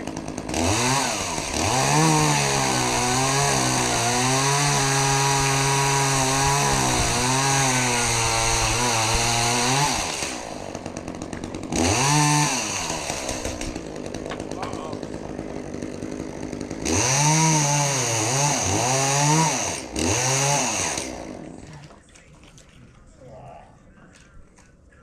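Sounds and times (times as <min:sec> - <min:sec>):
chainsaw cutting wood: 0:00.0 - 0:21.6.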